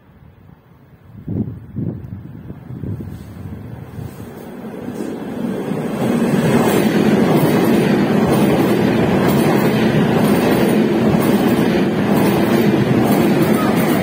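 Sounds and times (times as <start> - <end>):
train wheels rumbling on rails: 1.3 - 14.0.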